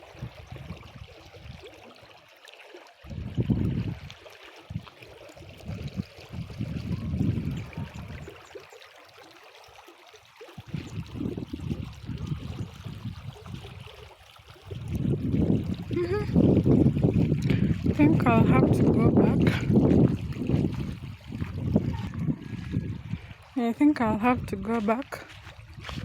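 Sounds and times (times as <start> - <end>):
wind buffeting microphone: 0.0 - 1.7, 3.0 - 8.5, 10.6 - 26.0
small stream trickling: 0.0 - 26.0.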